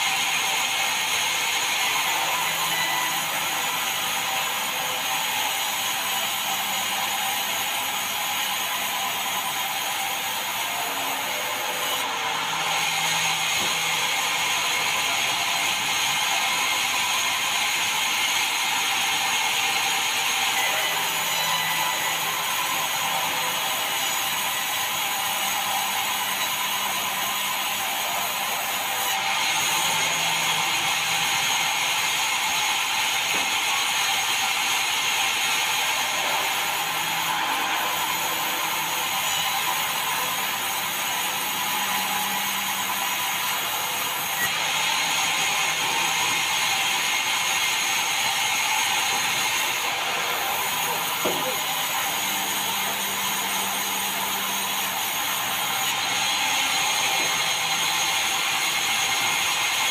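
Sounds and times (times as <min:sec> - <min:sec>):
band saw cutting timber: 0:00.0 - 0:59.9.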